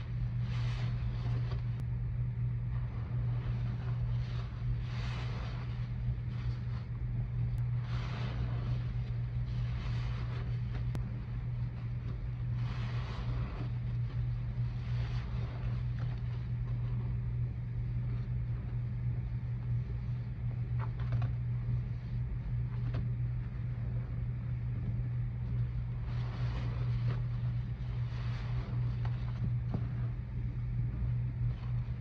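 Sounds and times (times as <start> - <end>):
soap suds crackling: 0.0 - 1.9, 2.5 - 24.1, 25.2 - 32.0
soaked sponges squelching: 0.0 - 32.0
steady low hum: 0.0 - 32.0.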